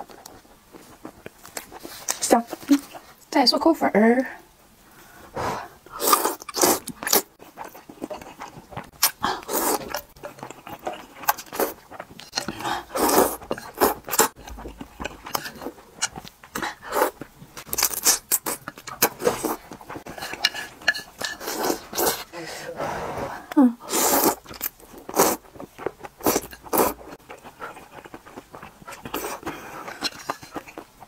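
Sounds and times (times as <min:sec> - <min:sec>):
chewing: 0:00.0 - 0:03.2, 0:05.9 - 0:22.3, 0:23.9 - 0:31.0
noodles being slurped: 0:05.9 - 0:31.0.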